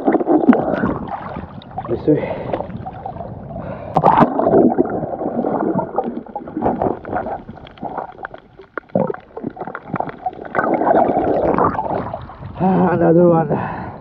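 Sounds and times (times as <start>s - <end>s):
underwater bubbles: 0.0s - 13.1s
muffled underwater water gurgling: 0.0s - 14.0s.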